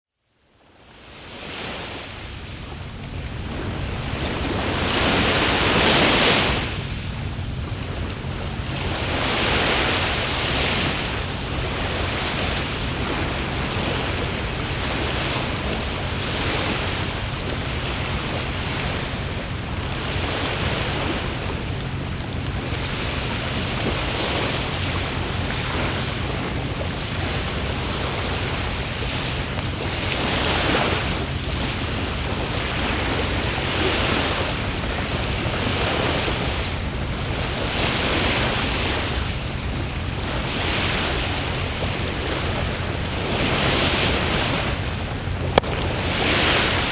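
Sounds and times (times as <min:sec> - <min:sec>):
bonfire hissing: 0:01.5 - 0:46.9.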